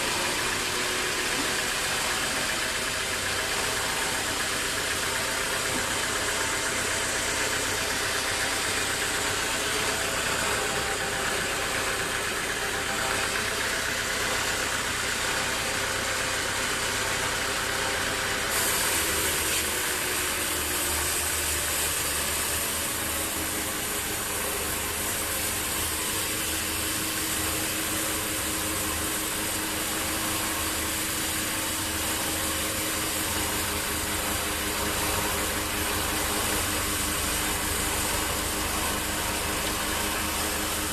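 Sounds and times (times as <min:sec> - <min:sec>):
sawmill machinery drone: 0:00.0 - 0:40.9.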